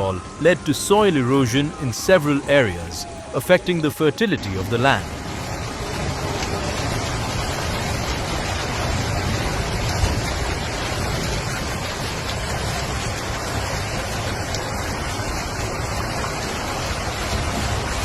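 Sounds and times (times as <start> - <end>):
loud rushing water: 0.0 - 18.0.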